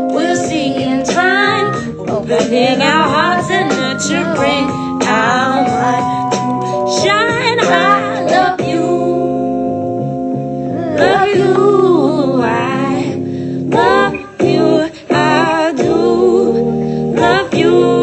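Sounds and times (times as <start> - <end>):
song with singing: 0.0 - 9.9, 10.6 - 18.0.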